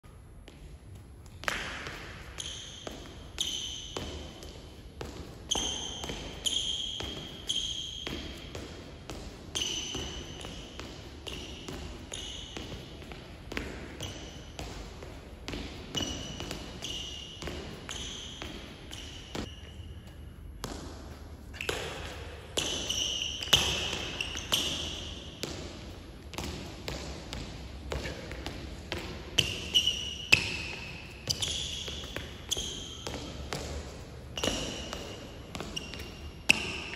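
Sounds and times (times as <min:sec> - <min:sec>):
sneakers squeaking on floor: 0:00.5 - 0:36.9.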